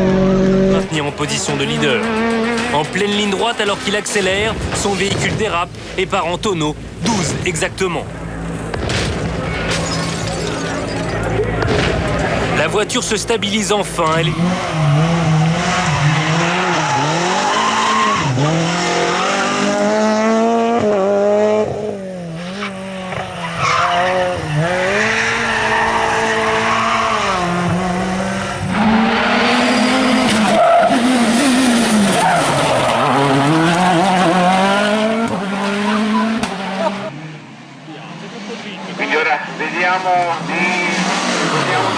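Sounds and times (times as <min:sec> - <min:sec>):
rally car engine revving: 0:00.0 - 0:41.9
tyres skidding: 0:00.0 - 0:41.9.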